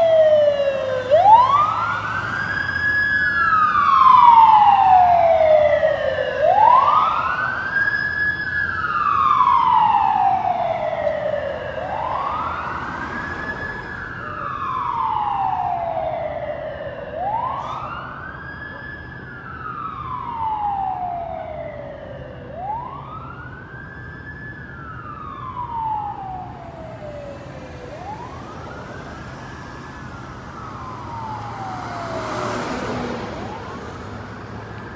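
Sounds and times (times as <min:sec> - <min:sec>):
ambulance siren wailing: 0:00.0 - 0:34.9.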